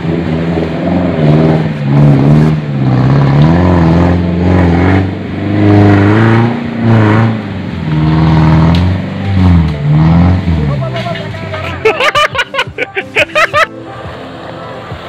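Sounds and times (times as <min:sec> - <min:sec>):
off-road vehicle engine revving: 0:00.0 - 0:13.6.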